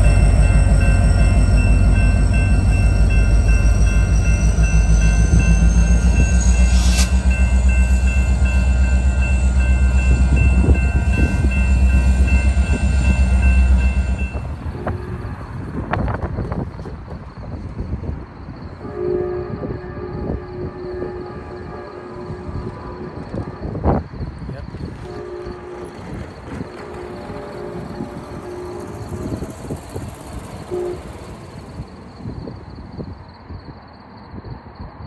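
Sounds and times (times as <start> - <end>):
crossing warning bells ringing: 0.0 - 16.8, 17.5 - 33.5
train rumbling past: 0.0 - 35.0.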